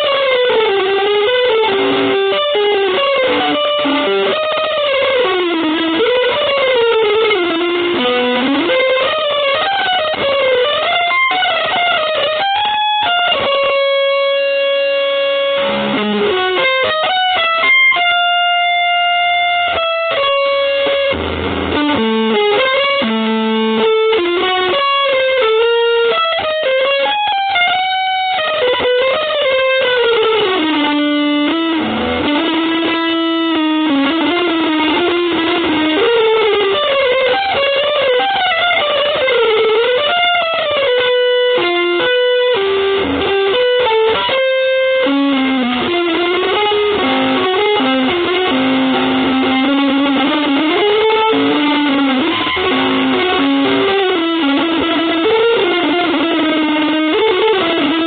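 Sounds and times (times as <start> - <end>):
electric guitar improvising: 0.0 - 58.0.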